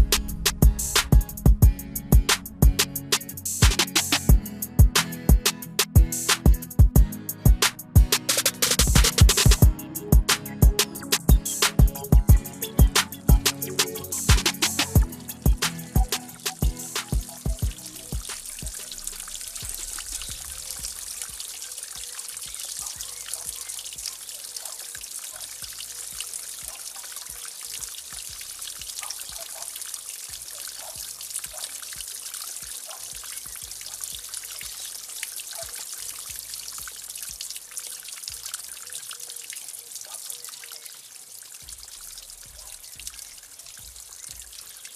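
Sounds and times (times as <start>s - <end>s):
waterfall trickling into pond: 7.6s - 44.9s.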